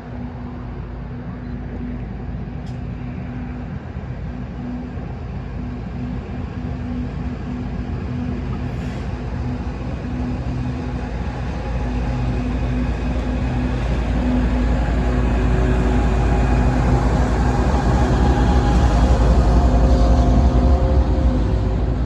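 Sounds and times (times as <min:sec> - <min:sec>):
diesel locomotive engine humming: 0:00.0 - 0:22.0
train low rumble: 0:00.0 - 0:22.0.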